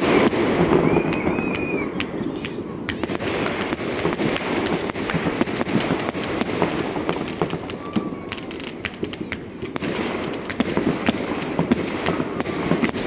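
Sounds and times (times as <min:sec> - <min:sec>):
fireworks crackling and banging: 0:00.0 - 0:13.0
whistling fireworks: 0:00.0 - 0:13.0.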